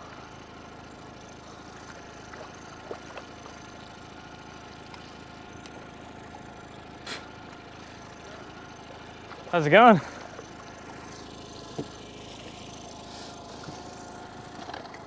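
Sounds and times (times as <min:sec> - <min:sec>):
motor idling hum: 0:00.0 - 0:15.0.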